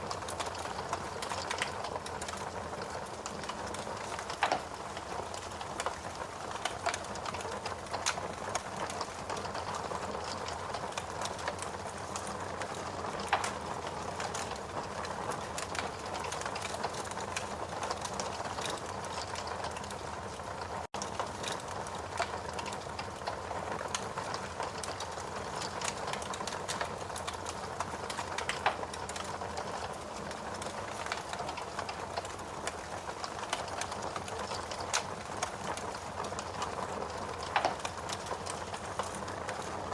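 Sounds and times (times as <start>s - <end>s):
burning logs popping: 0.0s - 39.9s
steady rain: 0.0s - 39.9s
wood fire crackling: 0.0s - 39.9s.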